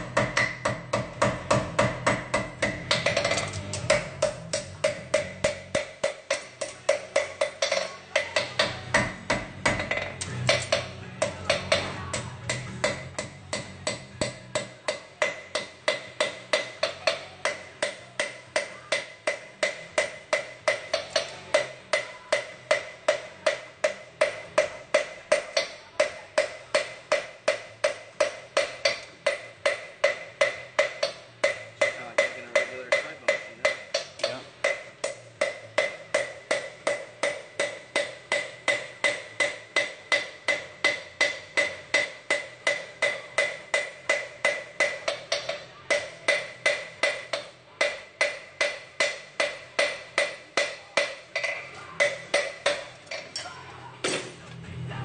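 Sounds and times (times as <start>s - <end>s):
hammer striking anvil: 0.0s - 54.4s.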